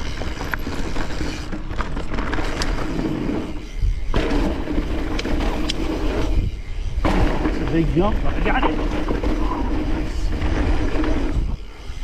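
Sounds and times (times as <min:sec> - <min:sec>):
bike landing clatter: 0:00.0 - 0:11.6
tyre and wind rumble: 0:00.0 - 0:12.0.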